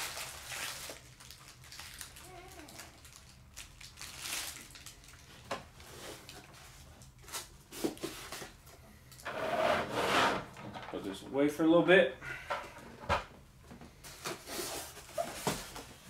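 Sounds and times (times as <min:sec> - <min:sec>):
packaging rustling and scraping: 0:00.0 - 0:10.8, 0:13.9 - 0:16.0.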